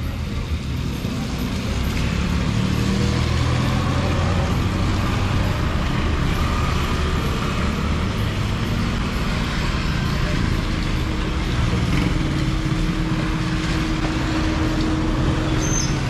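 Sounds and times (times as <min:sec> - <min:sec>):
road traffic noise: 0:00.0 - 0:16.0
vehicle engine droning: 0:00.0 - 0:16.0.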